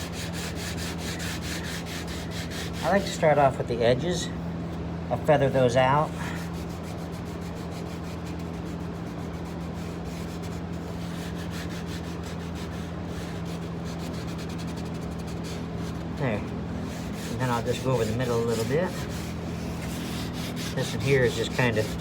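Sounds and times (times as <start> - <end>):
sandpaper rasping on drywall: 0.0 - 3.2, 6.2 - 22.0
steady low hum: 0.0 - 22.0.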